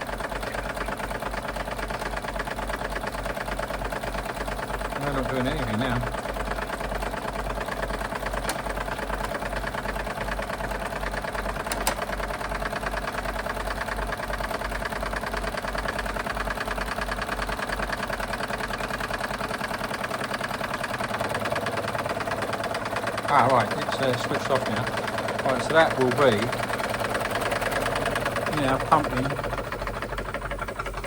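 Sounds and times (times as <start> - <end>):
model steam engine running: 0.0 - 31.0.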